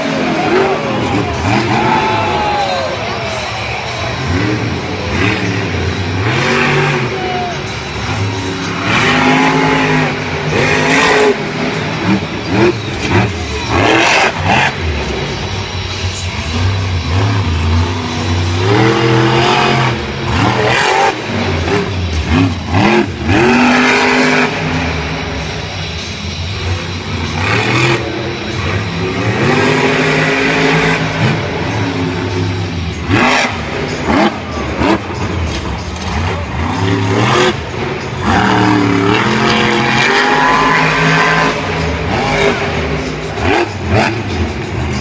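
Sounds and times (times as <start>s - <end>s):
truck engine revving hard: 0.0s - 45.0s.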